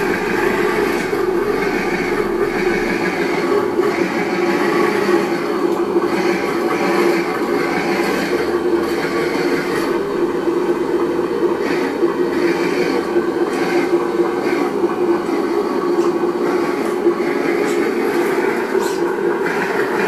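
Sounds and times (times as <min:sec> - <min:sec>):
simulated engine through small speaker: 0:00.0 - 0:20.0.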